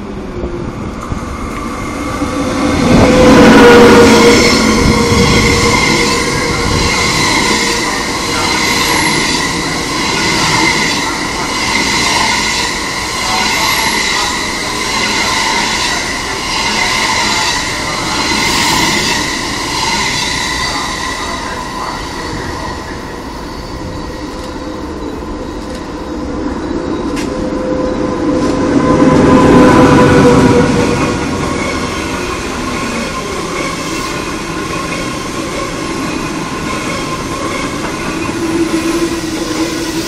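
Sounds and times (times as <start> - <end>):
electric locomotive approaching: 0.0 - 40.0
train coaches rolling past: 0.0 - 40.0.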